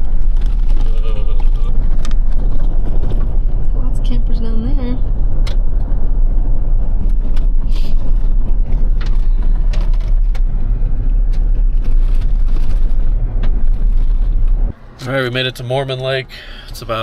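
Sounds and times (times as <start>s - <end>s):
truck road and engine rumble: 0.0s - 17.0s.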